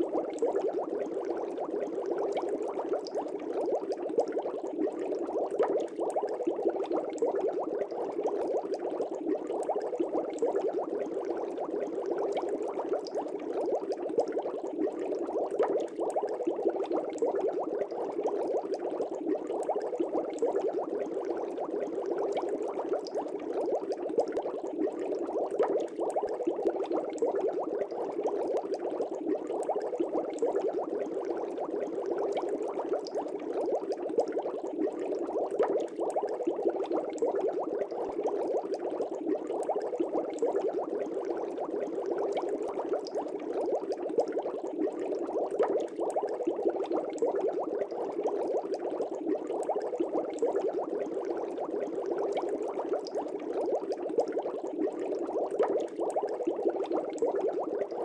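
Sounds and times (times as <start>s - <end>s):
air bubbling in fish tank: 0.0s - 58.0s.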